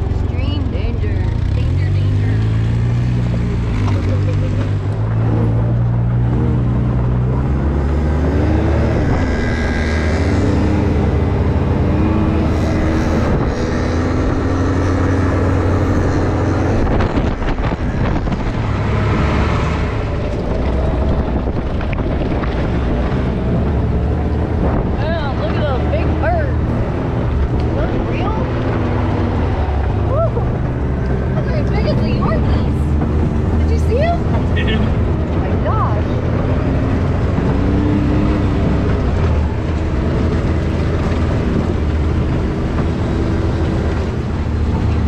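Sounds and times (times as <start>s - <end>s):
engine revving while driving: 0.0s - 45.0s.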